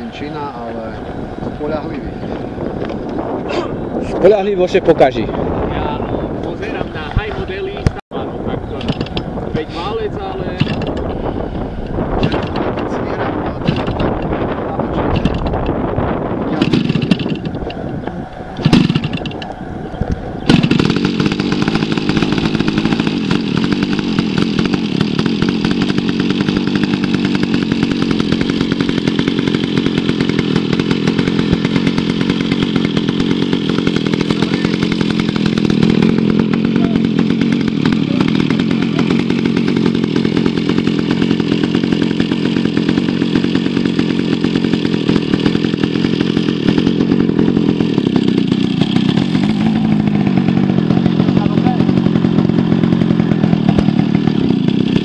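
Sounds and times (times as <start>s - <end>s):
engine sputtering: 0.0s - 55.0s
two-stroke model engine running: 0.0s - 55.0s.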